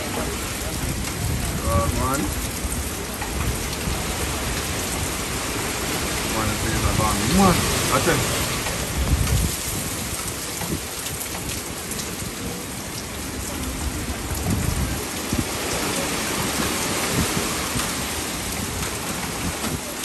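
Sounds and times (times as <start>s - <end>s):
driving rain: 0.0s - 20.0s
wind blasting the microphone: 0.0s - 20.0s
wind gusting through trees: 0.0s - 20.0s.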